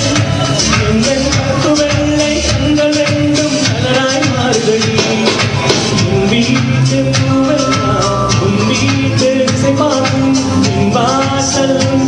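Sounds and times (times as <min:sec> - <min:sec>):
backing track with steady beat: 0:00.0 - 0:12.0
man singing into microphone: 0:00.0 - 0:12.0.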